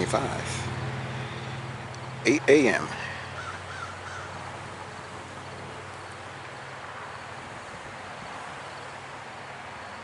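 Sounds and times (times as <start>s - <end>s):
insect chorus: 0.0s - 10.0s
low constant hum: 0.0s - 10.0s.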